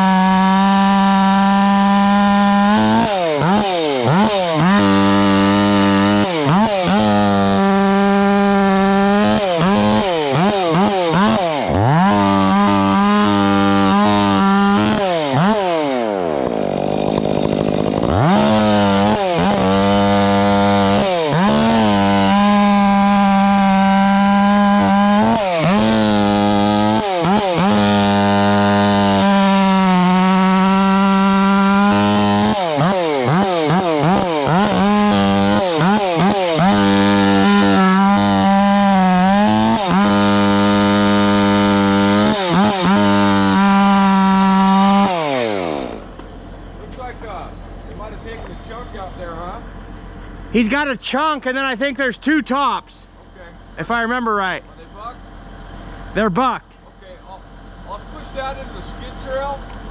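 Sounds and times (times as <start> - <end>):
chainsaw cutting wood: 0.0 - 49.4, 50.1 - 59.9.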